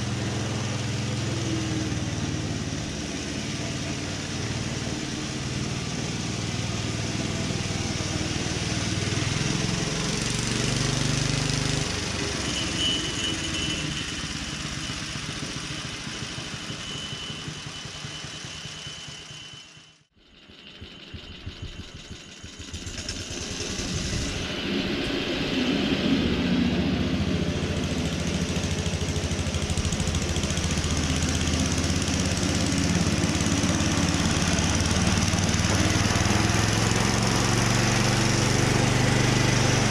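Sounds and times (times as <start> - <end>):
lawn mower engine running: 0.0 - 24.6, 25.6 - 39.9.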